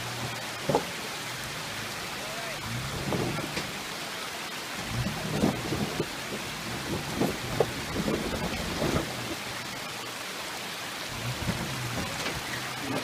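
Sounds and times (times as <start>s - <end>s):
low engine rumble: 0.0s - 10.1s, 11.0s - 13.0s
water rushing over rocks: 0.0s - 13.0s.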